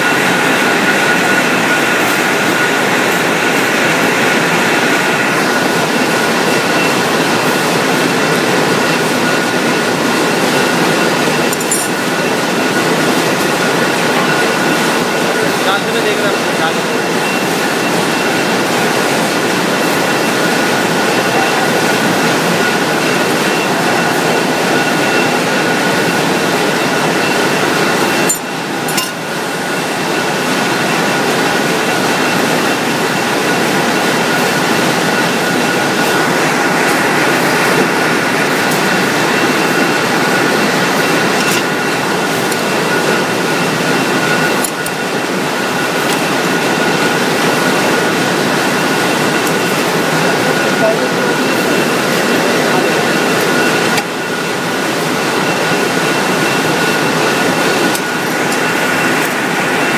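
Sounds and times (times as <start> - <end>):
high mechanical whine: 0.0 - 59.9
wire drawing machine running: 0.0 - 59.9.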